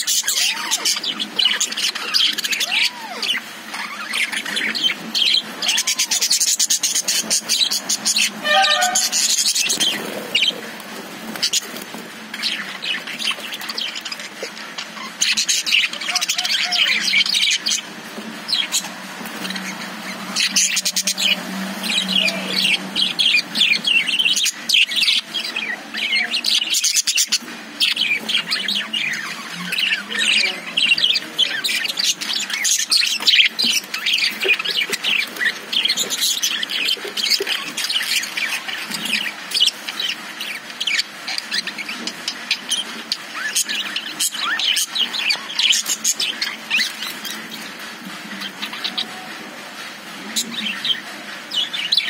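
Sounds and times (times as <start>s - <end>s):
budgerigars chirping and chattering: 0.0s - 52.0s.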